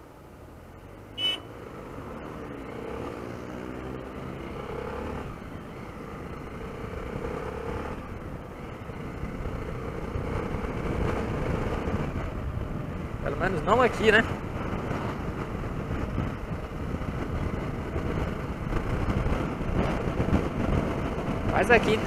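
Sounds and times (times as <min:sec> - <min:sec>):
road and wind noise: 0:00.0 - 0:22.0
motorcycle engine accelerating: 0:01.4 - 0:22.0.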